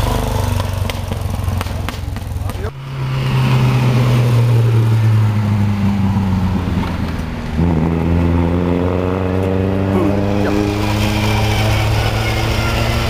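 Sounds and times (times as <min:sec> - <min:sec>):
racing car engine running: 0:00.0 - 0:13.0.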